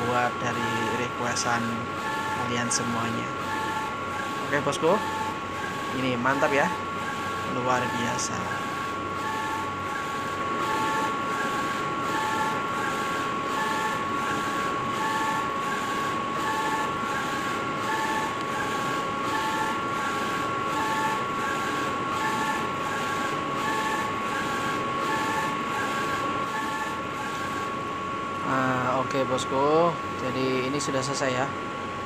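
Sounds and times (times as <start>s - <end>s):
printer machine whine: 0.0s - 32.0s.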